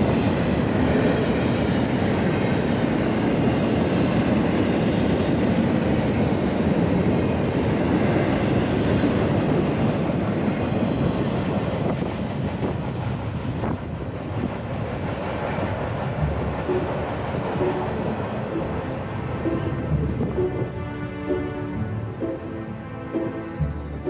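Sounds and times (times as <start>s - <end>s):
freight train rumbling and rattling: 0.0s - 24.0s.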